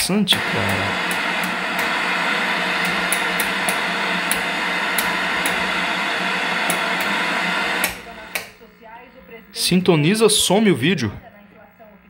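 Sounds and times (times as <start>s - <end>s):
television static hiss: 0.0s - 12.0s.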